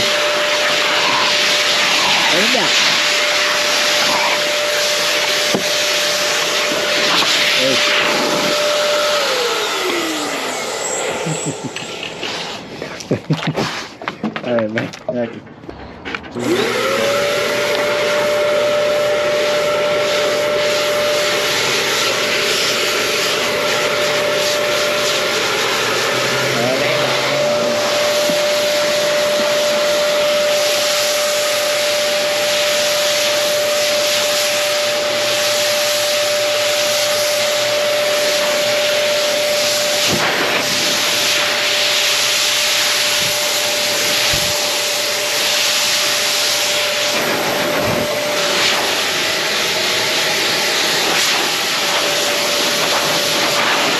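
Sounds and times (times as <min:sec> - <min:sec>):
hair dryer blowing: 0:00.0 - 0:14.2, 0:16.3 - 0:53.9.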